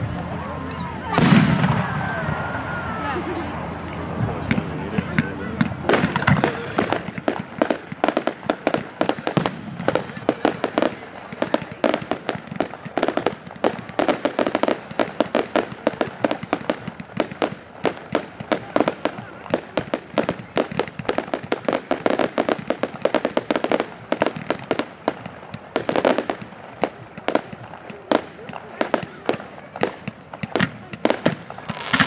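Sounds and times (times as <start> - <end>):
fireworks banging and crackling: 0.0 - 32.0.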